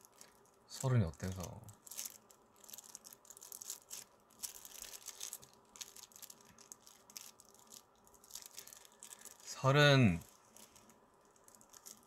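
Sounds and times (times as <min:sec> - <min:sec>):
rustling and scratching: 0:01.2 - 0:12.0.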